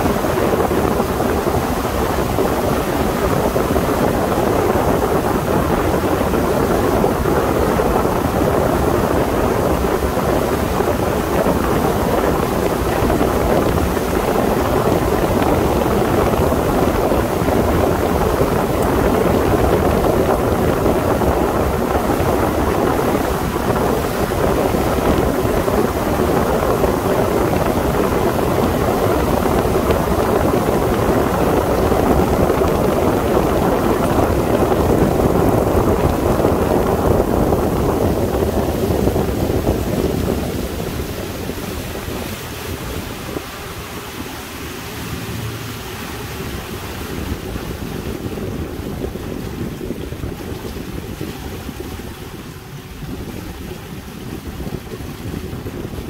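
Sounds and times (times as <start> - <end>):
hull on water: 0.0 - 56.0
motorboat engine: 0.0 - 56.0
wind noise: 0.0 - 56.0.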